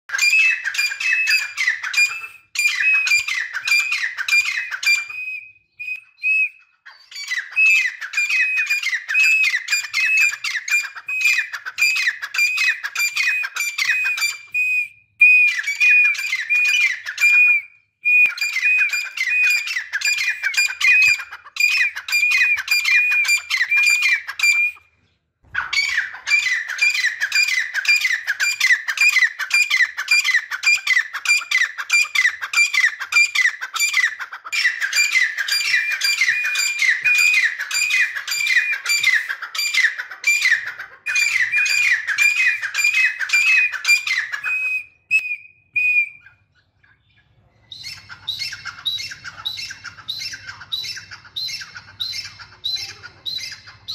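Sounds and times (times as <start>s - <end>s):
francolins calling: 0.1s - 53.9s.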